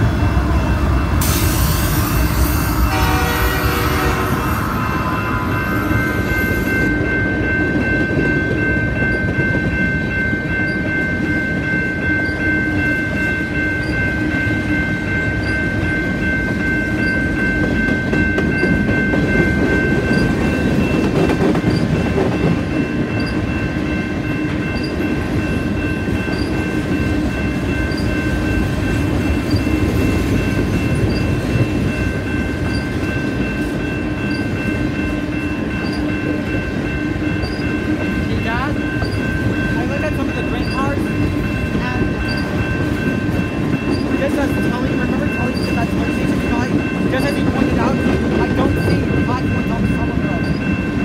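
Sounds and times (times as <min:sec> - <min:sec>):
high steady ringing tone: 0:00.0 - 0:51.0
train wheels rumbling on rails: 0:00.0 - 0:51.0.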